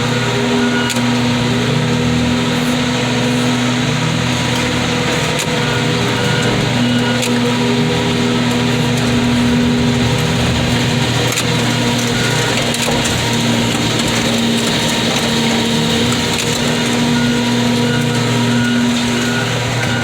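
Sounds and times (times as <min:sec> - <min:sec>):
car bodies cracking and crunching: 0:00.0 - 0:20.0
car crusher engine drone: 0:00.0 - 0:20.0.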